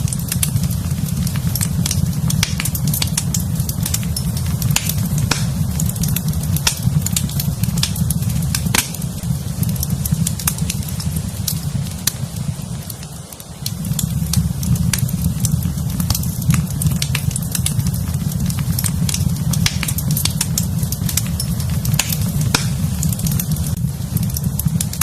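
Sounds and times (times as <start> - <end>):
fire crackling and popping: 0.0 - 25.0
wood fire rumbling: 0.0 - 25.0.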